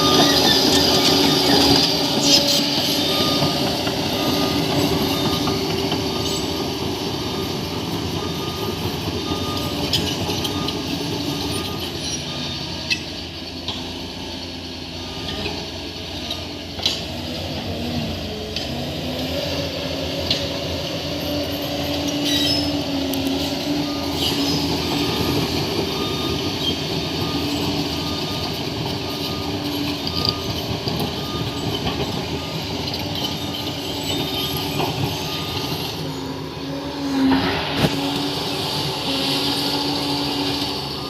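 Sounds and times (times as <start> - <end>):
steel tracks clanking and squealing: 0.0 - 14.1, 14.9 - 41.0
bulldozer diesel engine running: 0.0 - 41.0.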